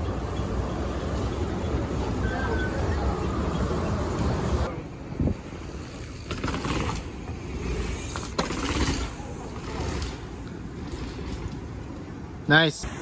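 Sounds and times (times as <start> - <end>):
mountain bike rolling: 0.0 - 13.0.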